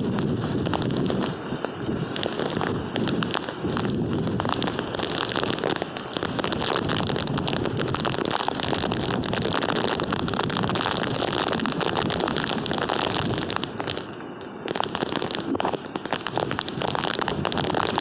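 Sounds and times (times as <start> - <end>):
driving rain spatter: 0.0 - 18.0
hurricane wind: 0.0 - 18.0
wind buffeting microphone: 0.0 - 18.0.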